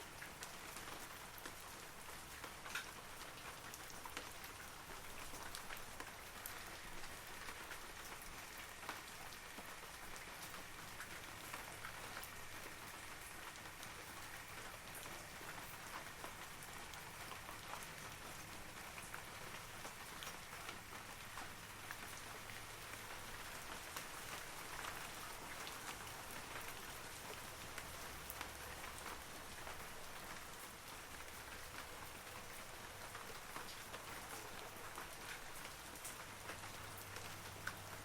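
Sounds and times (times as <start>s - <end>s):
rain falling on trees: 0.0s - 38.0s.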